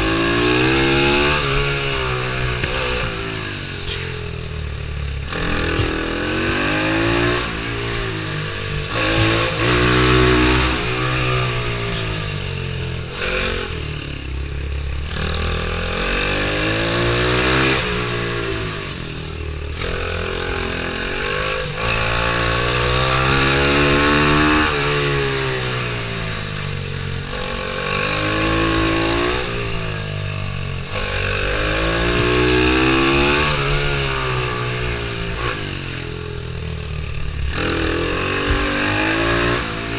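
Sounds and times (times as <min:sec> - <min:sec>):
pit bike engine accelerating: 0:00.0 - 0:39.9.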